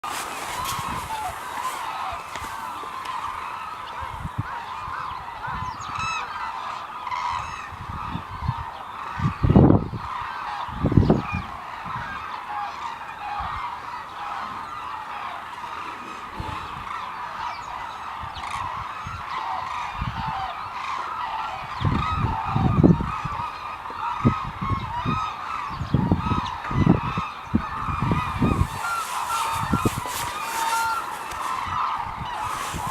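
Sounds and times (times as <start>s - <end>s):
bird flock honking: 0.0s - 32.9s.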